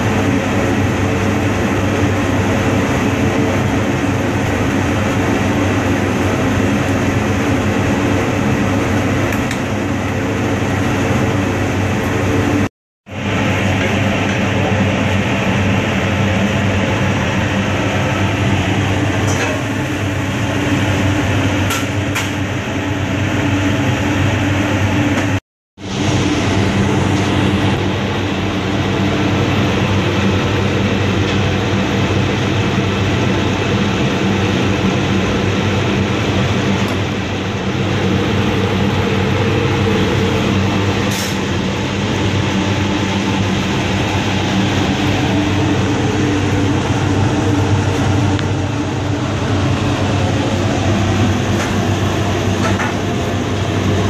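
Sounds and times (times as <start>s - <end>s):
gas burner roaring: 0.0s - 54.0s.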